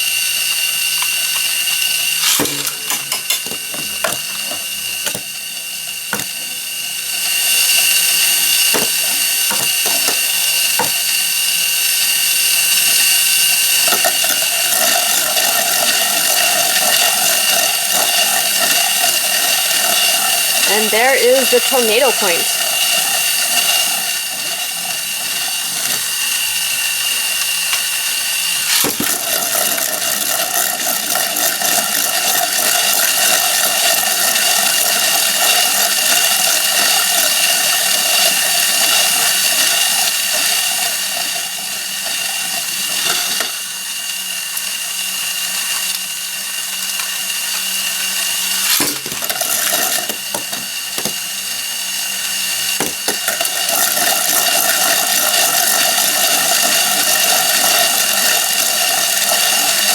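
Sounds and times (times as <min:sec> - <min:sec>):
motorized turntable whirring: 0:00.0 - 0:59.9
spinning top grinding on plastic: 0:00.0 - 0:59.9.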